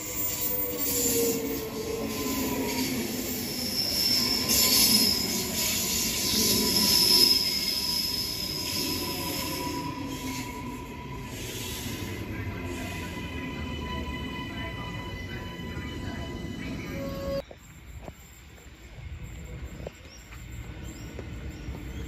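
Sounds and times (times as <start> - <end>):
train brakes squealing: 0.0 - 18.4
electric train whine: 0.0 - 22.0.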